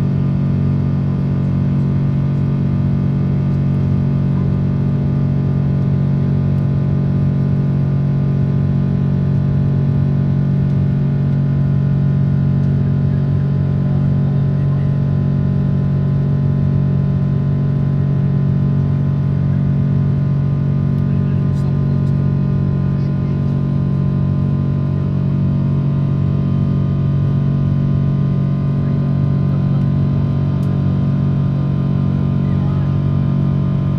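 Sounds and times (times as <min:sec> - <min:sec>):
jet engine drone in cabin: 0:00.0 - 0:33.9.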